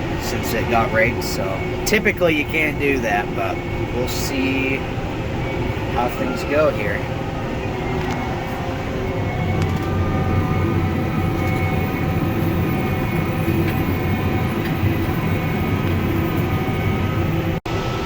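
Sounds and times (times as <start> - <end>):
drivetrain whine: 0.0 - 18.0
tractor engine droning: 0.0 - 18.0.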